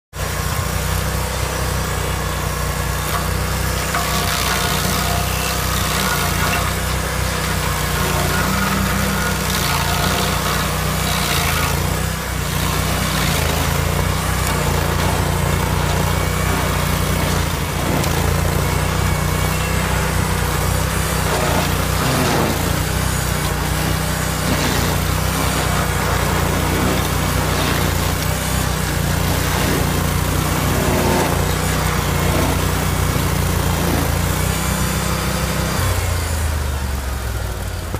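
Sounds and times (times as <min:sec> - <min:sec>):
cutter wheel grinding stump: 0:00.2 - 0:37.9
engine drone: 0:00.2 - 0:37.9.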